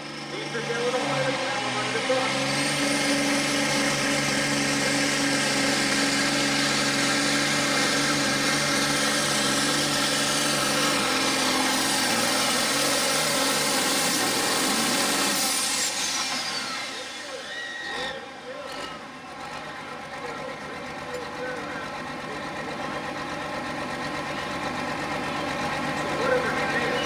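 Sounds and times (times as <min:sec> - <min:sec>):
diesel engine running hard: 0:00.0 - 0:27.0.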